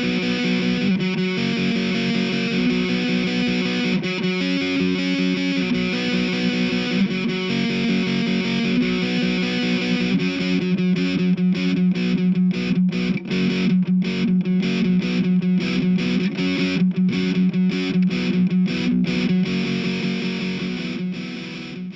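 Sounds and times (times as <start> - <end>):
distorted electric guitar strumming: 0.0 - 21.9.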